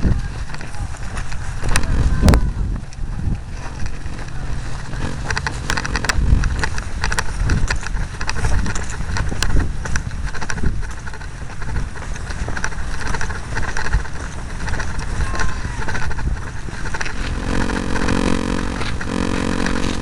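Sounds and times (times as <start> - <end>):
faint motor hum: 0.0 - 20.0
sharp clicks and rattles: 0.0 - 20.0
wind buffeting microphone: 0.0 - 20.0.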